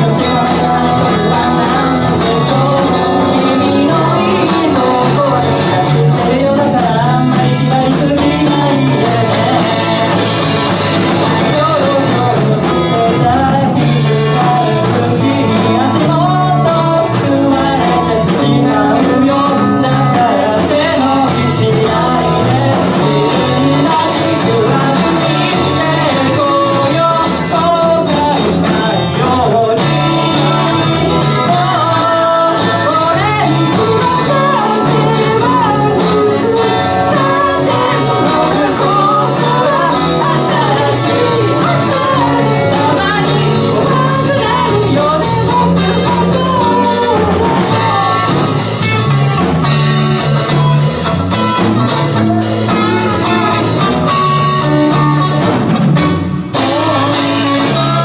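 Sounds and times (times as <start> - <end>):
drums: 0.0 - 58.0
electric guitars: 0.0 - 58.0
person singing: 0.0 - 58.0.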